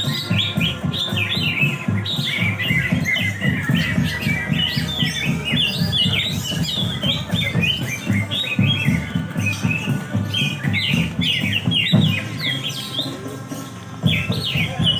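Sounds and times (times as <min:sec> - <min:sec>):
birds singing fast chirps: 0:00.0 - 0:14.9
music with thumping beat: 0:00.0 - 0:14.9.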